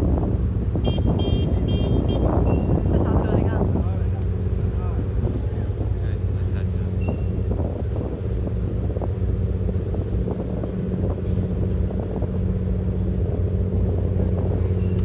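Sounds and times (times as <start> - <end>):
boat engine droning: 0.8 - 15.0.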